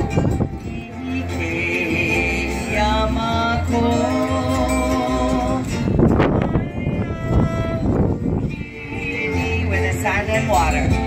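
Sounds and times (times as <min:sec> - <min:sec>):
person singing long notes: 0:00.0 - 0:11.0
plucked strings: 0:00.0 - 0:11.0.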